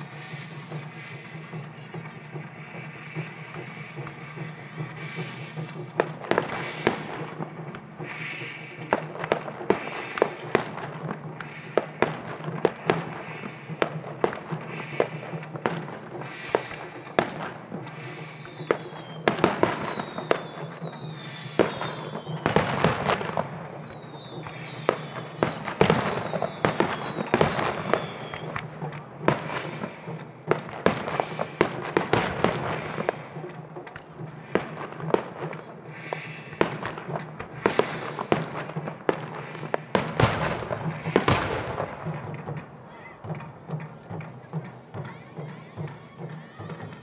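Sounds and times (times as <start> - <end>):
fireworks bangs and crackles: 0.0 - 47.0
fireworks whistles falling in pitch: 0.0 - 47.0.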